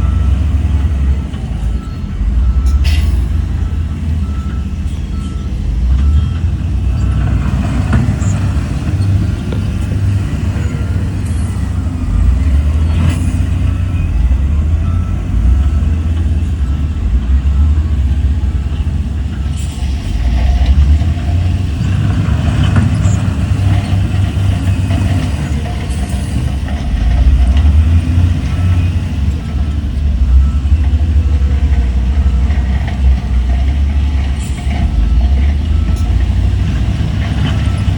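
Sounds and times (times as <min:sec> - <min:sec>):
heavy diesel engine rumbling: 0:00.0 - 0:37.9.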